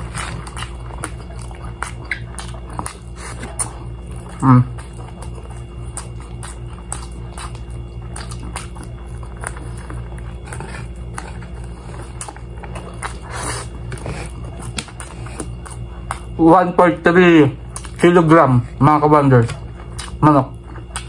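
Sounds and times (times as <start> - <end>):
chewing and lip-smacking: 0.0 - 21.0
steady low hum: 0.0 - 21.0.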